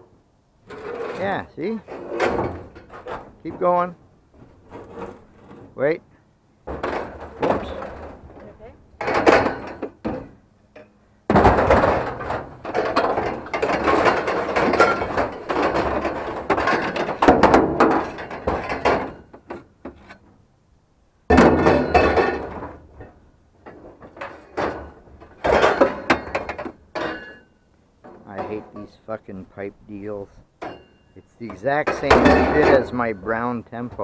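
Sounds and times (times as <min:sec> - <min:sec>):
scrap metal rattling and scraping: 0:00.6 - 0:06.0, 0:06.6 - 0:20.4, 0:21.3 - 0:34.0.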